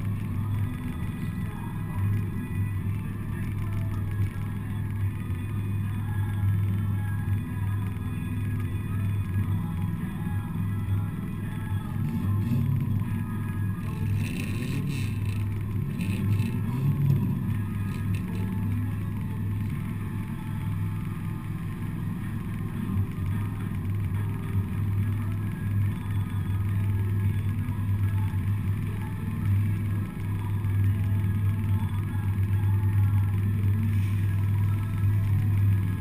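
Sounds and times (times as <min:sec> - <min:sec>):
car engine drone: 0:00.0 - 0:36.0.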